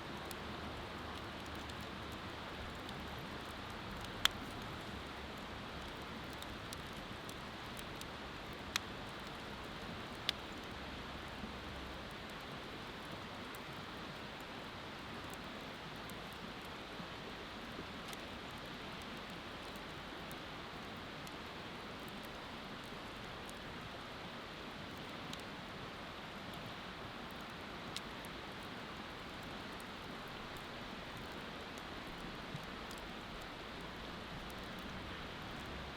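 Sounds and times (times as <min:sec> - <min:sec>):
wood fire crackling and popping: 0:00.1 - 0:16.9, 0:17.5 - 0:23.7, 0:27.2 - 0:35.9.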